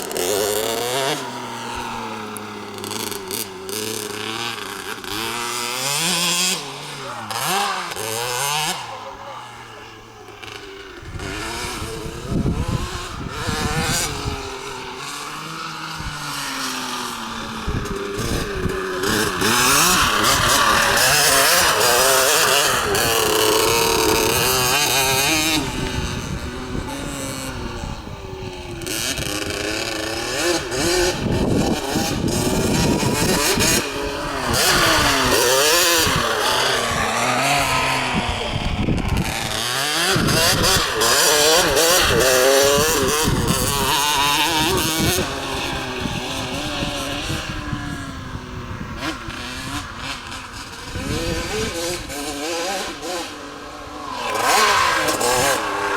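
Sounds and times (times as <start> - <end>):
motocross minibike engine revving: 0.0 - 55.9.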